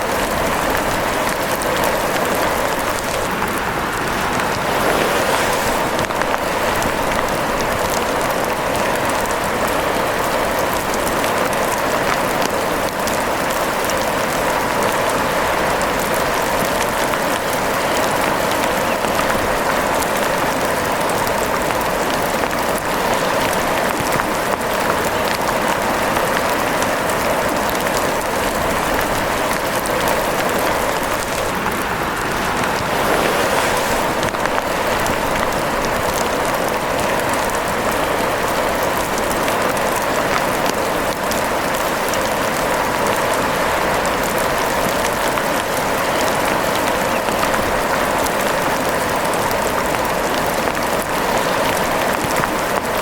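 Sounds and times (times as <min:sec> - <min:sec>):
steady rain pattering: 0:00.0 - 0:53.0.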